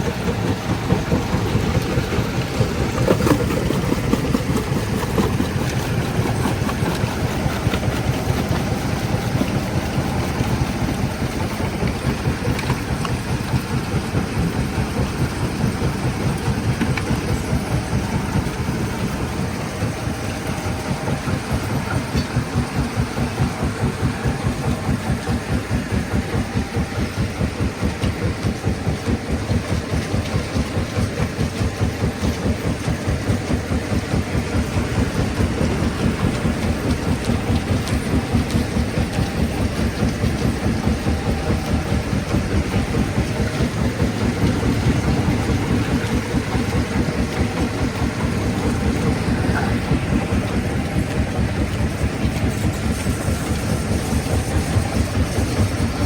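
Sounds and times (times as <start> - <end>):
stone crusher machinery pulsing: 0.0 - 56.0.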